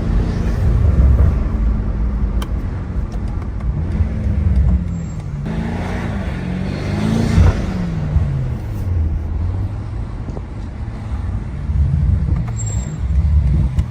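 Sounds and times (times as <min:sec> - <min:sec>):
car engine revving while driving: 0:00.0 - 0:13.9.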